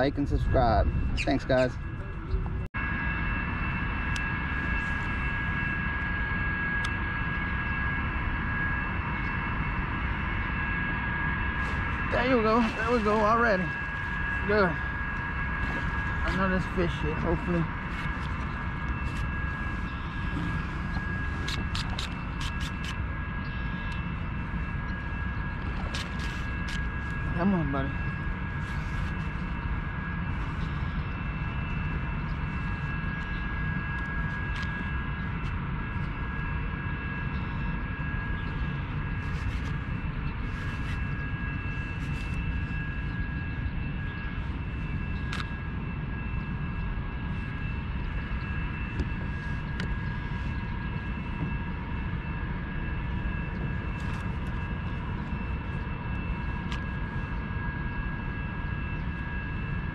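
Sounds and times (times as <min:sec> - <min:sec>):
faint high whine: 0:00.0 - 0:59.9
wind rumble on microphone: 0:00.0 - 0:59.9.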